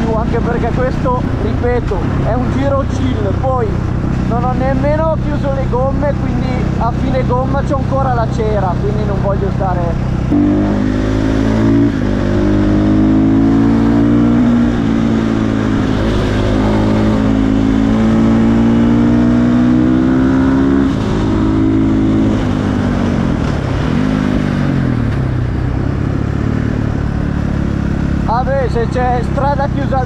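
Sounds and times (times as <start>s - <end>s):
motorcycle engine revving through gears: 0.0s - 30.0s.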